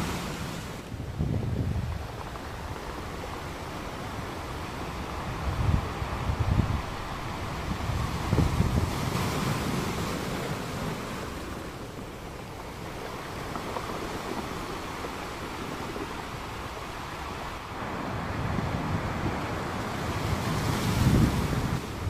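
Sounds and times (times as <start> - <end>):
surf washing: 0.0 - 22.0
wind buffeting microphone: 0.0 - 22.0.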